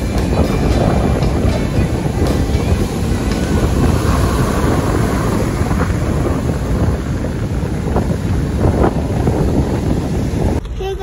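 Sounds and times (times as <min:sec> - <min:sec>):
heavy surf breaking: 0:00.0 - 0:10.6.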